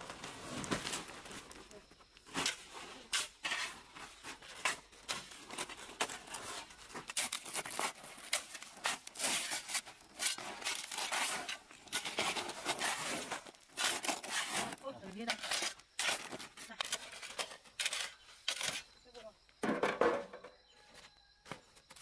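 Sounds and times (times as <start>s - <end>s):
rustling and crackling: 0.0s - 19.2s.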